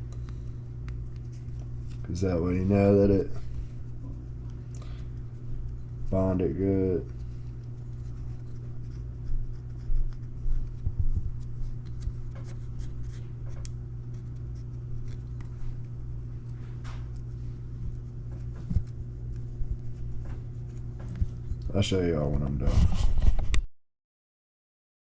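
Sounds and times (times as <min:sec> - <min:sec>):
low electrical hum: 0:00.0 - 0:23.7.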